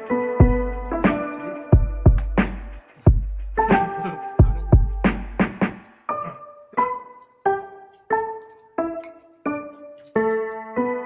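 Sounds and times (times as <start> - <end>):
keyboard melody: 0.0 - 11.0.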